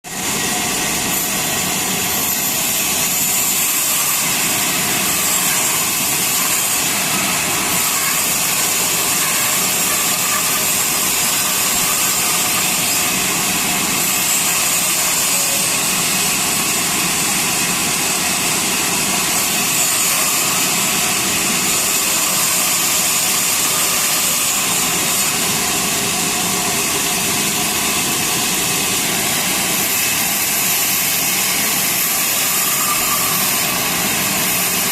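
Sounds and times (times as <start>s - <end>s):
sawmill saw cutting log: 0.1s - 34.9s.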